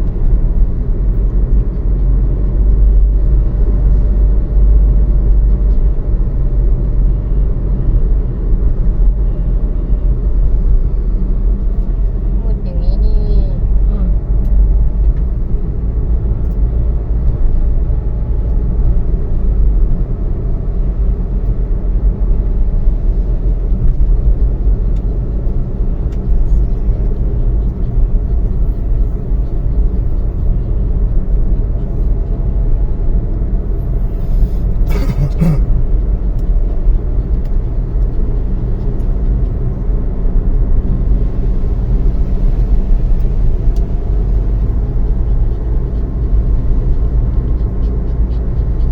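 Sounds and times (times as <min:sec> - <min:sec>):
car rumble: 0:00.0 - 0:48.9.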